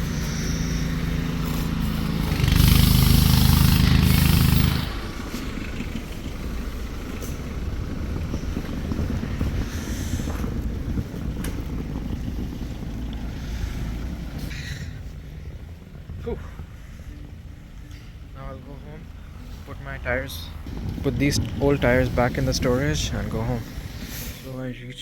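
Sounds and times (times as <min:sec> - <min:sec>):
car engine revving and rumbling: 0:00.0 - 0:25.0.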